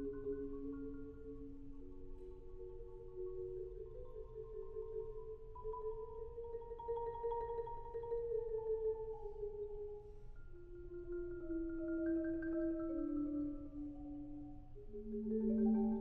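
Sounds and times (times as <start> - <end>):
marimba chords: 0.0 - 16.0.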